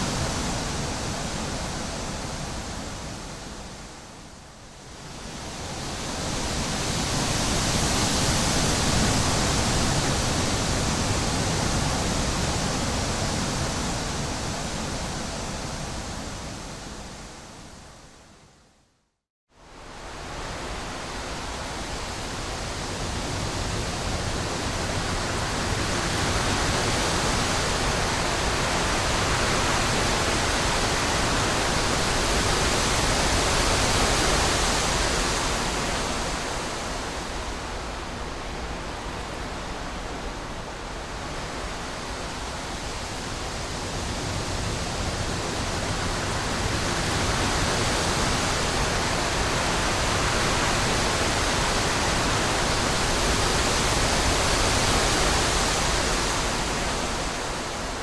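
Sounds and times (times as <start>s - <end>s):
wind gusting through trees: 0.0s - 58.0s.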